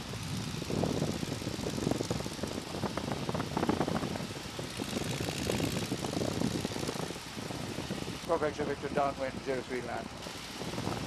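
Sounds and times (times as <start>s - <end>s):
airplane engine and propeller: 0.0s - 11.0s
rushing slipstream wind: 0.0s - 11.0s.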